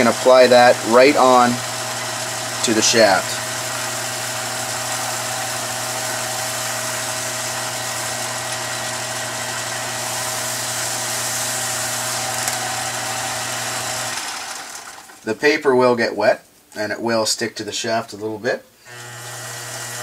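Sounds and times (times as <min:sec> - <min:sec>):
lathe motor humming: 0:00.0 - 0:15.2, 0:18.9 - 0:20.0.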